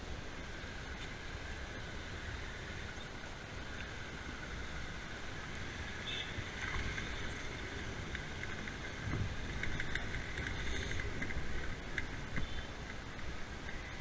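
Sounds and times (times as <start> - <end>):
road noise: 0.0 - 14.0
wind rumble on microphone: 0.0 - 14.0.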